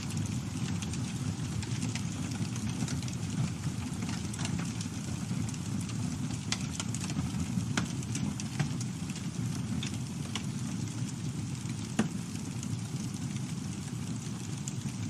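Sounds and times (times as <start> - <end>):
burning wood crackling and popping: 0.0 - 15.0
campfire rumble: 0.0 - 15.0.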